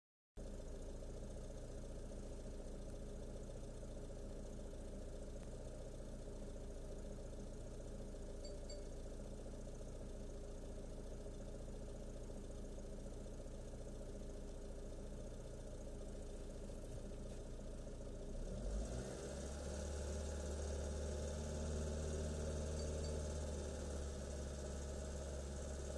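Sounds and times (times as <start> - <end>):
car engine idling: 0.4 - 25.9.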